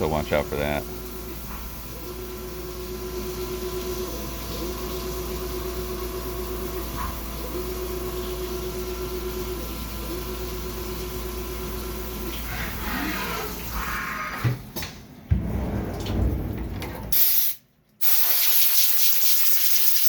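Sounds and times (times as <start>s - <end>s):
constant machine hum: 0.0s - 17.2s.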